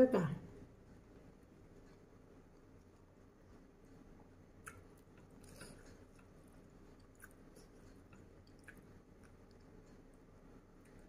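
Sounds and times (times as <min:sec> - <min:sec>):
faint chewing: 0:01.0 - 0:11.0
soft wet clicks: 0:01.1 - 0:11.0.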